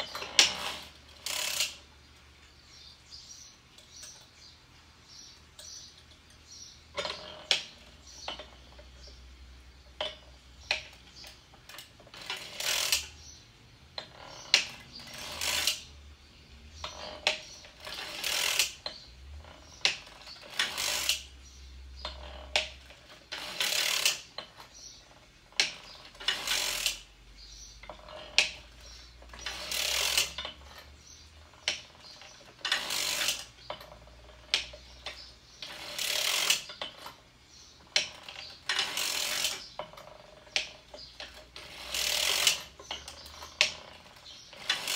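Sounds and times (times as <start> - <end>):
knitting machine needles clattering: 0.0 - 2.3, 5.6 - 13.2, 13.9 - 15.9, 16.8 - 44.9.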